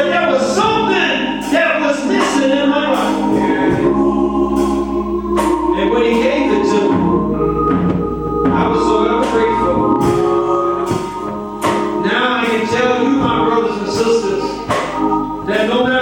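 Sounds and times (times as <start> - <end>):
church organ gospel chords: 0.0 - 16.0
voices singing: 0.0 - 16.0.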